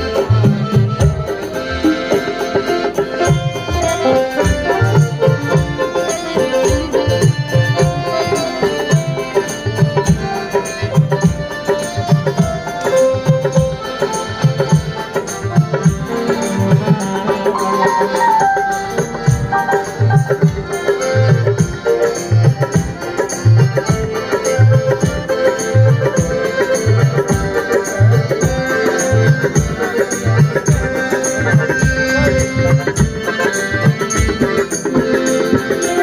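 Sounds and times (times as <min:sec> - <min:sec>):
music with steady drum beat: 0:00.0 - 0:36.0.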